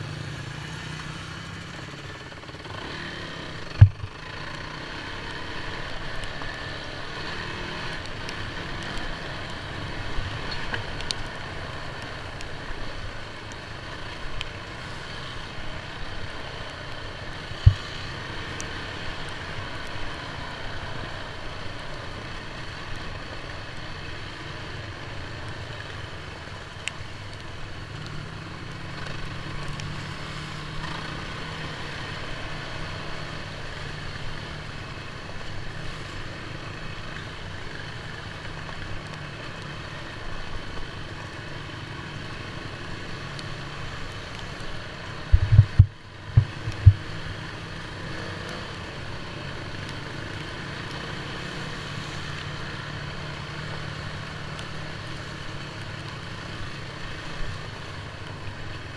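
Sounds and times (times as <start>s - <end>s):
off-road vehicle engine droning: 0.0s - 58.9s.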